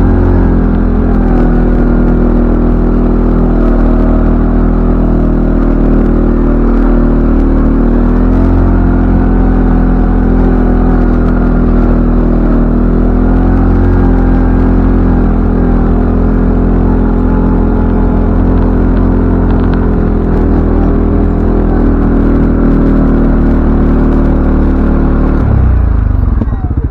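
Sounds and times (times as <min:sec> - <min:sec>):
atv engine running: 0:00.0 - 0:26.9.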